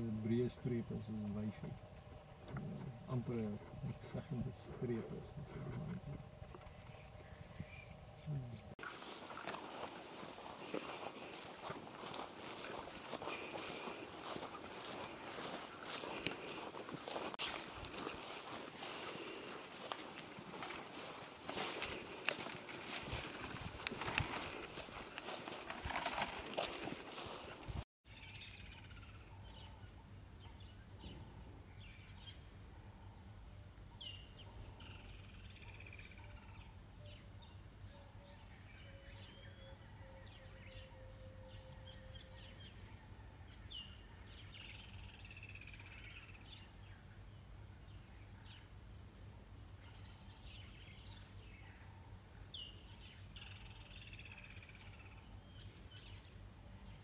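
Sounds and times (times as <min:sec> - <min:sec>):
faint birdsong with chirps: 0:00.0 - 0:57.0.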